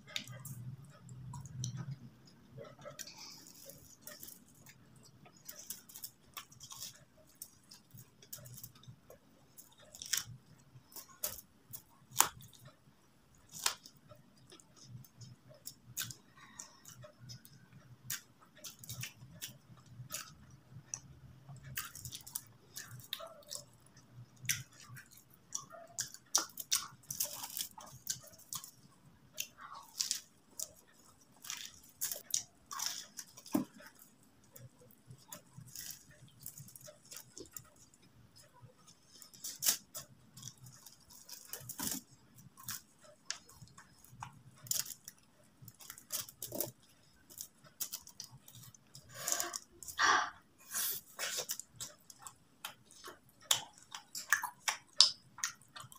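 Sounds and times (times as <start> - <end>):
person chewing crunchy pastry: 0.0 - 55.9.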